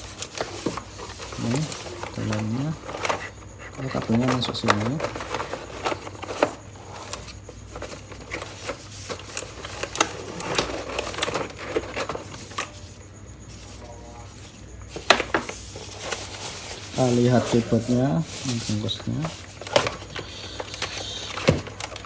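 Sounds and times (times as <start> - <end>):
cardboard packaging rustling: 0.0 - 22.0.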